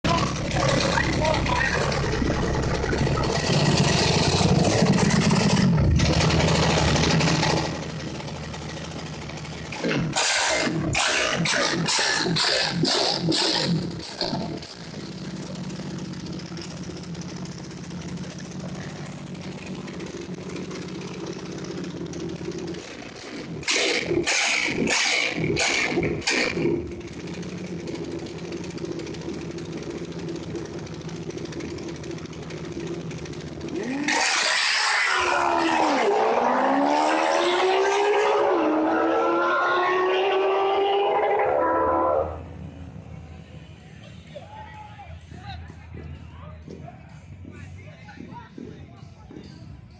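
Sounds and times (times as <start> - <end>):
motorcycle engine at high revs: 0.0 - 42.5.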